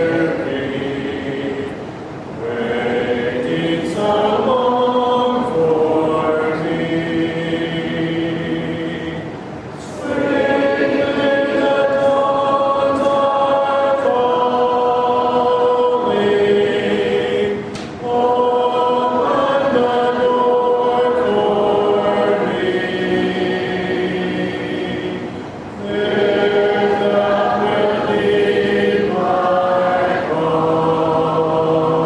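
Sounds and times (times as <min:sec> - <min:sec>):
congregation singing a hymn: 0:00.0 - 0:32.0.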